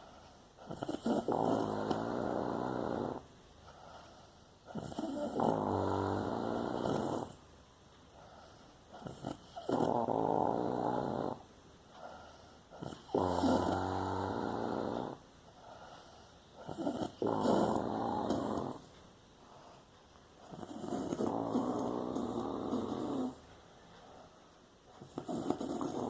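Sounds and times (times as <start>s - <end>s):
quiet breathing: 0.0s - 26.0s
rattling snores: 0.6s - 7.4s, 8.2s - 23.4s, 24.9s - 26.0s.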